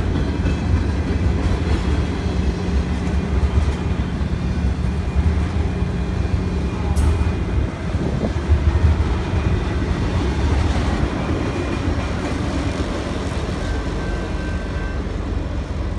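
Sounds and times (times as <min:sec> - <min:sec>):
freight train wheels rumbling: 0:00.0 - 0:15.9
train cars clattering: 0:00.0 - 0:15.9.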